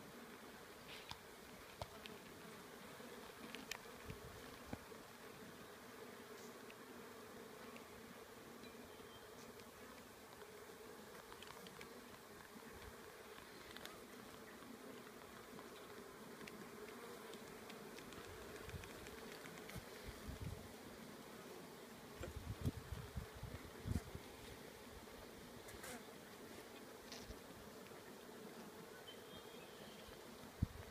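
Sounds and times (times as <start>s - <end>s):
honeybees humming: 0.0s - 30.9s.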